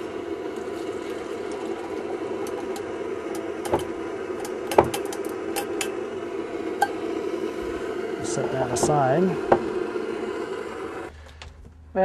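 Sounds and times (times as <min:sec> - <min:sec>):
camp stove burner roaring: 0:00.0 - 0:12.0.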